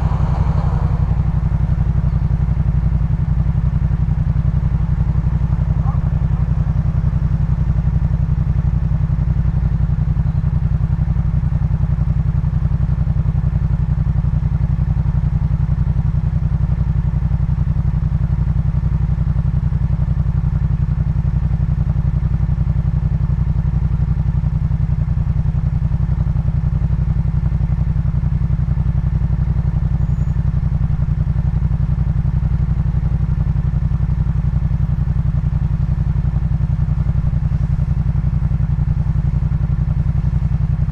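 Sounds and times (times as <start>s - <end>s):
motorcycle engine running deep: 0.0s - 40.9s.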